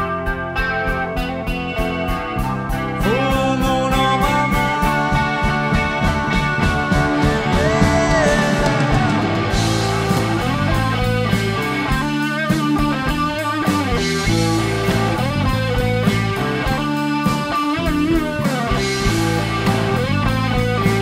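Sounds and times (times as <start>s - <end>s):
bass guitar: 0.0s - 21.0s
electric guitar bending notes: 0.0s - 21.0s
steady drum beat: 0.0s - 21.0s.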